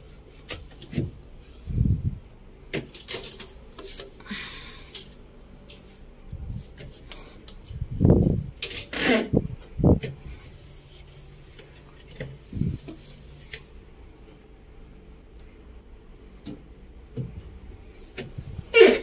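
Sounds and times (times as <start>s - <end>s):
cloth wiping a refrigerator: 0.0s - 2.3s, 5.2s - 14.6s, 15.2s - 19.0s.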